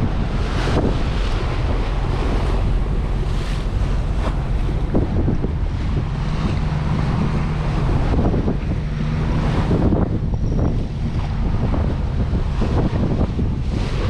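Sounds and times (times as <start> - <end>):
boat engine hum: 0.0 - 14.0
water rushing past hull: 0.0 - 14.0
wind buffeting microphone: 0.0 - 14.0.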